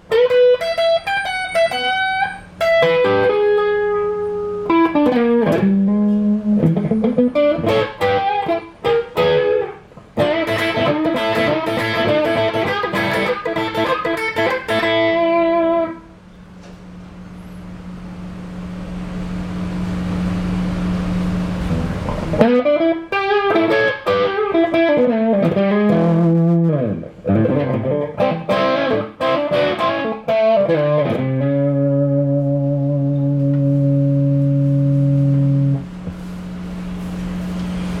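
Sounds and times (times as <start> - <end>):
overdriven electric guitar lead: 0.0 - 16.1, 21.6 - 35.9.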